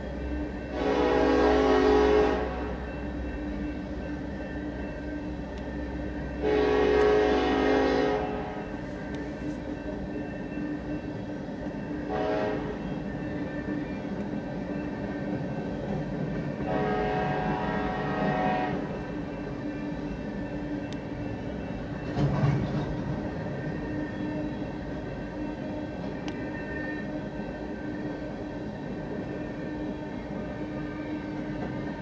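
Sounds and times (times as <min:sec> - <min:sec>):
train wheels rumble and clatter: 0:00.0 - 0:32.0.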